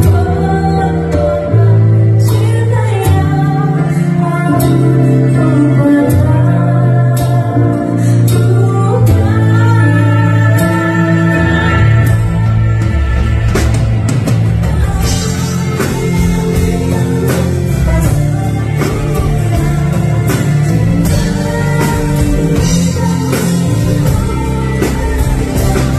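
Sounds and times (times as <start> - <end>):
band with guitar and hand drum: 0.0 - 25.9
woman singing into a microphone: 0.0 - 25.9.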